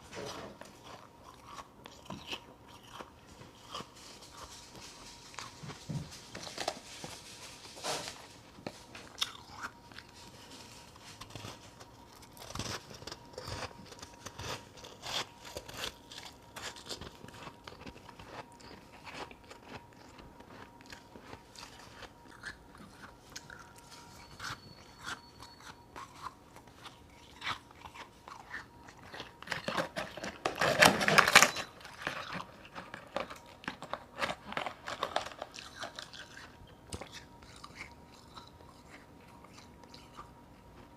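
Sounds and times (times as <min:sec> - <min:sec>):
chewing and crunching ice: 0:00.0 - 0:07.0, 0:08.7 - 0:40.9.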